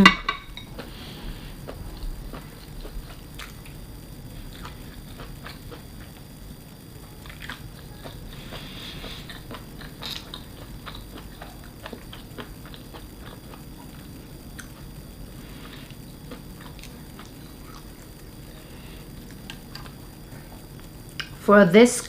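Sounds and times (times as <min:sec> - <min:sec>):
person chewing with mouth clicks: 0:00.6 - 0:03.8, 0:04.4 - 0:06.2, 0:07.2 - 0:18.2, 0:19.2 - 0:21.4.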